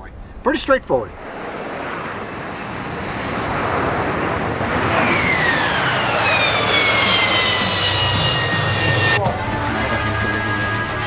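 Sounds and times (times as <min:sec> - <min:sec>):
jet engine rushing and whining: 0:00.1 - 0:11.0.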